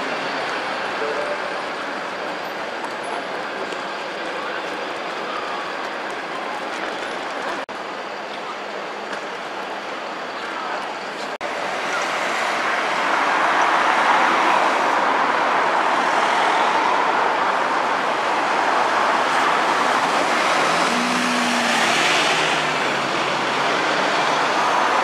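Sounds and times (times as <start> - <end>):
bus engine and tyre noise: 0.0 - 25.0.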